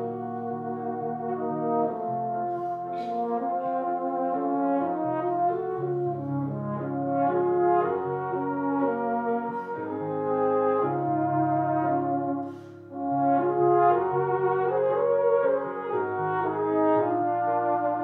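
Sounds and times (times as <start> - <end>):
piano accompaniment: 0.0 - 18.0
tenor and baritone horn duet: 0.0 - 18.0.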